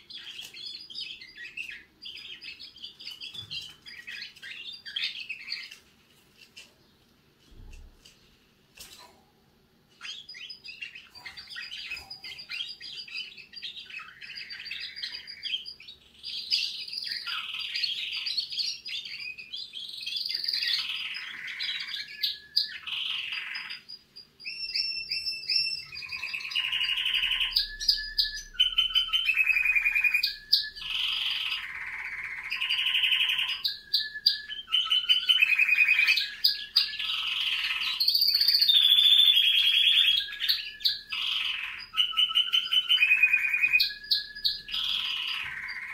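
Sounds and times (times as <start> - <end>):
canary singing trills: 0.0 - 6.0, 9.9 - 45.9.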